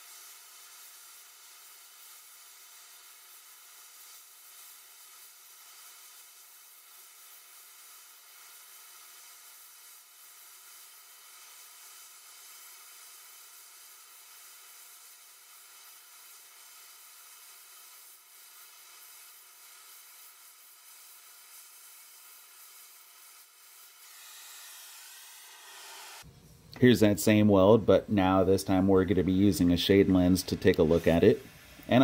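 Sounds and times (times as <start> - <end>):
welding torch flame hissing: 0.0 - 32.0.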